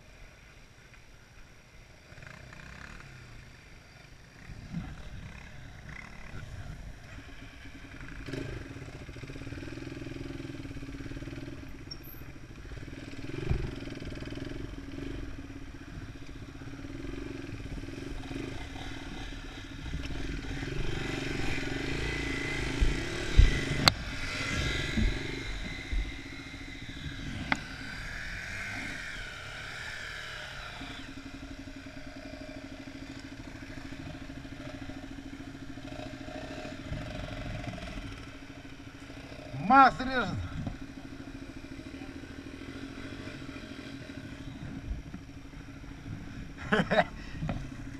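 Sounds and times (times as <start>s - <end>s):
dirt bike engine humming: 0.0s - 47.9s
dirt bike revving: 2.0s - 47.9s.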